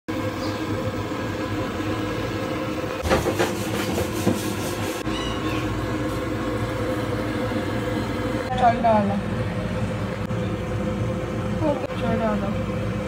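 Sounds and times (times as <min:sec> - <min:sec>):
mechanical hum: 0:00.1 - 0:13.0.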